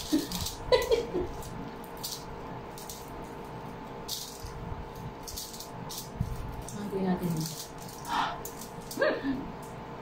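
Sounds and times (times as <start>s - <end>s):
crunching while chewing food: 0.0s - 9.0s
faint steady hum: 0.0s - 10.0s.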